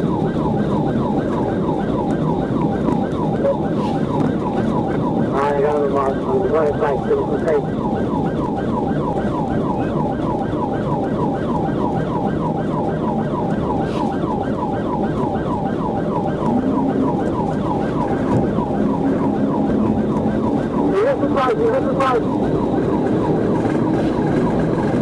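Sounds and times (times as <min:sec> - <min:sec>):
engine and road noise: 0:00.0 - 0:25.0
police siren yelping: 0:00.0 - 0:25.0.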